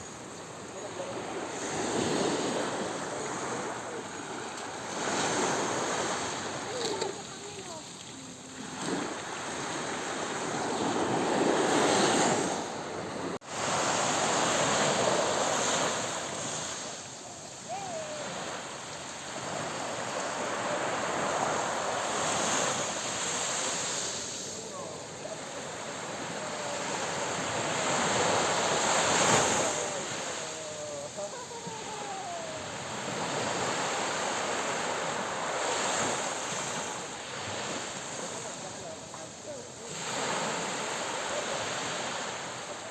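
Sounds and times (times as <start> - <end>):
ocean waves washing in: 0.0 - 42.9.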